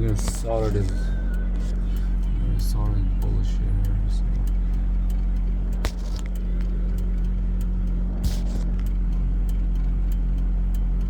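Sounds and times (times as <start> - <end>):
faint ticks: 0.0 - 11.0
low mechanical hum: 0.0 - 11.0.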